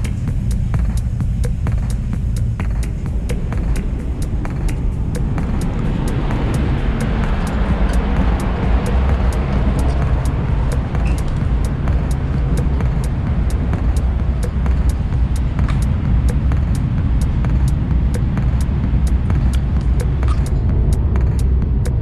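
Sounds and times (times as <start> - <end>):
faint even ticking: 0.0 - 22.0
train rumbling: 0.0 - 22.0.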